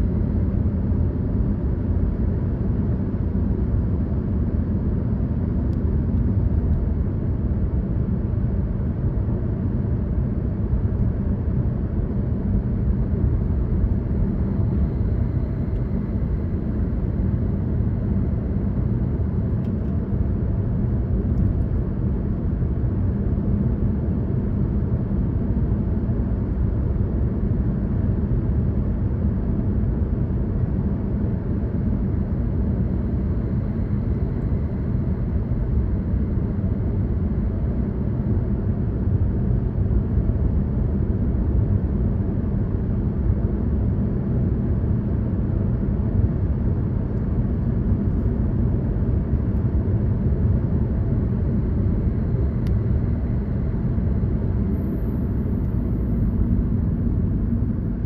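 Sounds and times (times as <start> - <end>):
car interior engine and tyre rumble: 0.0 - 58.0.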